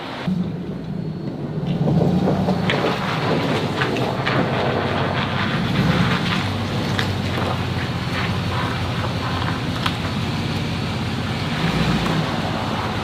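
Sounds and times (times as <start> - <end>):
snow-clearing vehicle engine running: 0.0 - 13.0.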